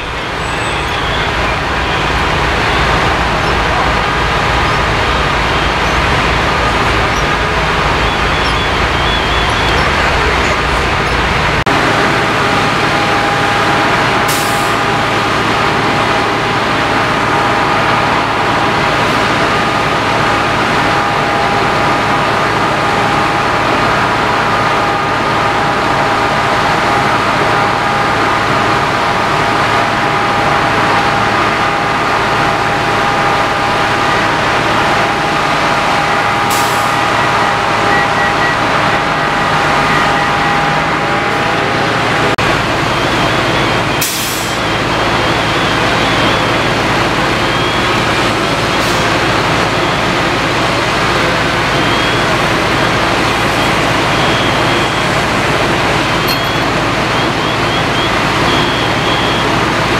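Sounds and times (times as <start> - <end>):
fire truck diesel engines running: 0.0 - 59.9.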